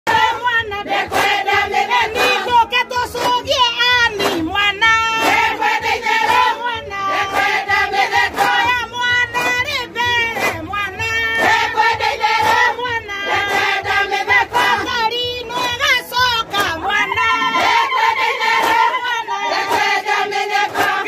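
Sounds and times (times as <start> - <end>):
women singing call and response: 0.1 - 21.0.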